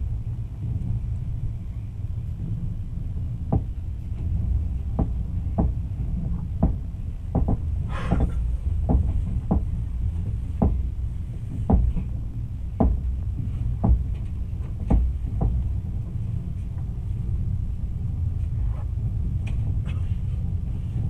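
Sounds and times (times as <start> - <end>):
train carriage rumbling: 0.0 - 21.0.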